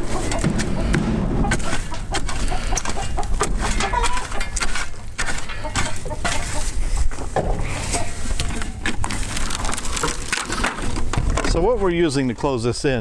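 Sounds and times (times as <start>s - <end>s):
chickens clucking: 0.0s - 11.4s.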